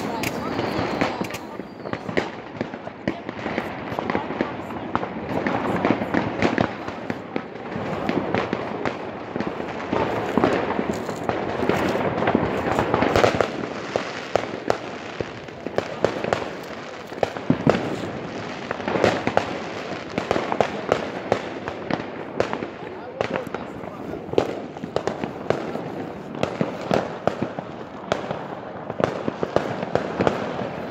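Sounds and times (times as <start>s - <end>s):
fireworks and firecrackers crackling: 0.0s - 30.9s.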